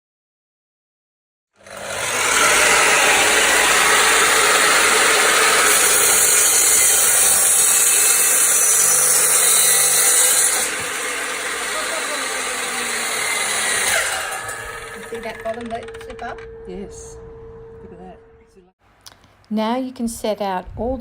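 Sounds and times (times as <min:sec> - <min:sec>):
power tool cutting timber: 0:01.6 - 0:18.6.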